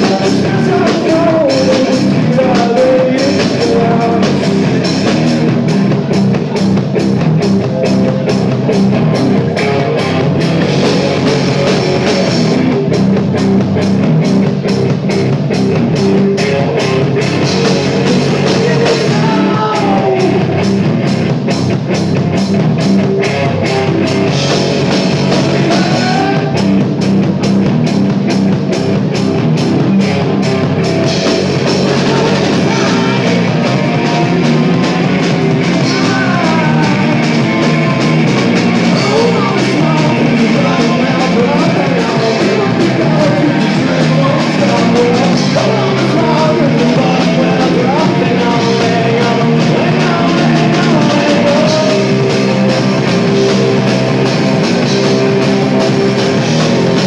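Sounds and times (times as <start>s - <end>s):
distorted electric guitar: 0.0s - 57.0s
heavy rock band playing: 0.0s - 57.0s.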